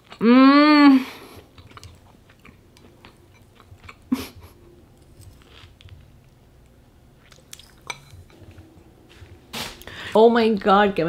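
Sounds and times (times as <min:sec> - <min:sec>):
person chewing food: 0:00.0 - 0:00.2, 0:01.1 - 0:09.9.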